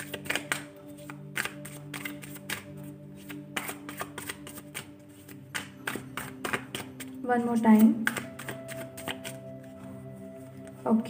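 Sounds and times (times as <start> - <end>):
cards shuffling: 0.0 - 10.0
soft background music: 0.0 - 11.0.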